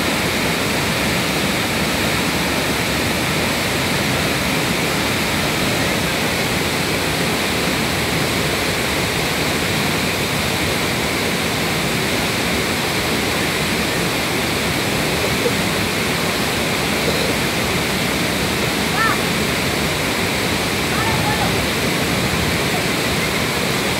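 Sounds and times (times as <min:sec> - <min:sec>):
stream water rushing over rocks: 0:00.0 - 0:23.9.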